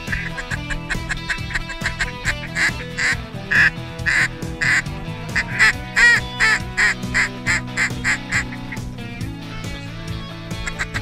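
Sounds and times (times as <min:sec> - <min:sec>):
duck quacking: 0:00.0 - 0:08.9, 0:10.6 - 0:11.0
background music low tones: 0:00.0 - 0:11.0.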